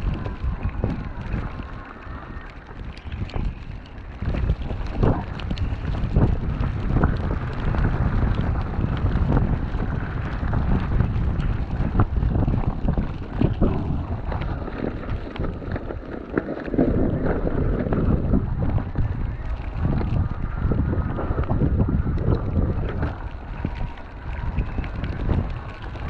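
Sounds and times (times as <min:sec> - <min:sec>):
bike crunching over snow: 0:00.0 - 0:26.0
wind rumbling on microphone: 0:00.0 - 0:26.0.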